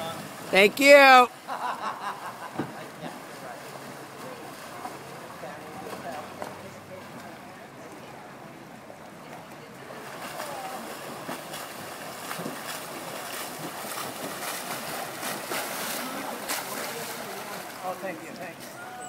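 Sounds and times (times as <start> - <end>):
swimmers splashing water: 0.0 - 19.0.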